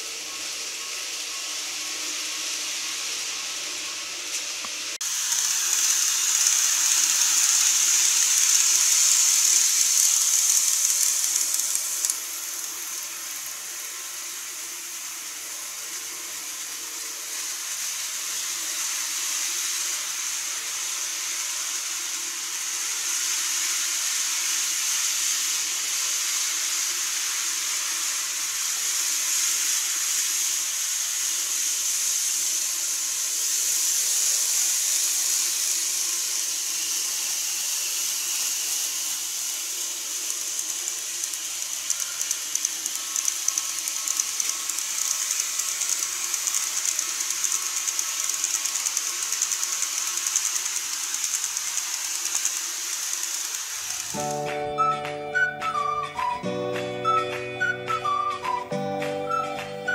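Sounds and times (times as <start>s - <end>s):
model trains whirring on rails: 0.0s - 59.9s.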